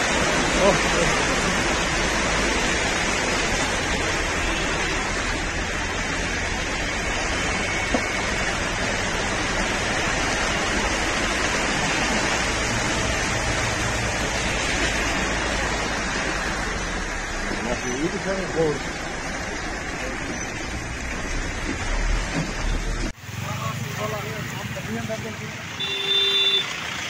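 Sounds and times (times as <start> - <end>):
floodwater rushing through street: 0.0 - 27.0
heavy rain: 0.0 - 27.0.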